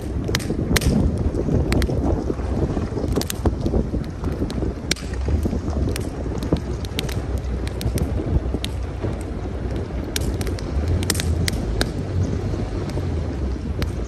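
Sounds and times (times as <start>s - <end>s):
campfire crackling and popping: 0.0s - 14.0s
wind buffeting microphone: 0.0s - 14.0s.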